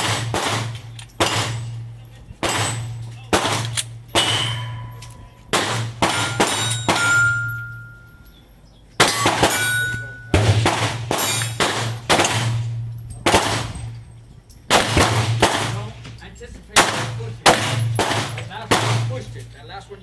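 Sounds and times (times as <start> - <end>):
gunshots: 0.0 - 7.9, 9.0 - 14.0, 14.7 - 19.6.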